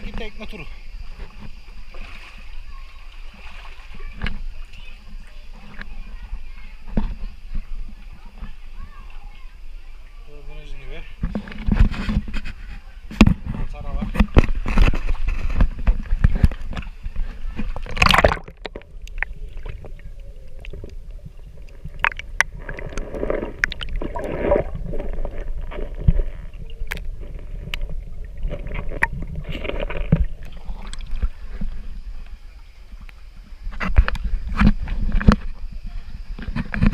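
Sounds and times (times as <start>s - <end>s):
boat engine rumble: 0.0s - 36.9s
water splashing along hull: 0.0s - 36.9s.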